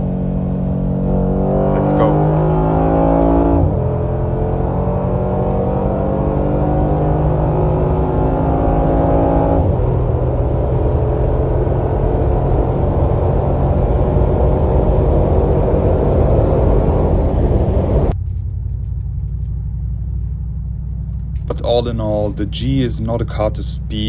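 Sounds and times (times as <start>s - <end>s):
car engine under load: 0.0s - 24.0s
low rumble: 0.0s - 24.0s
wind and tyre noise: 0.0s - 24.0s.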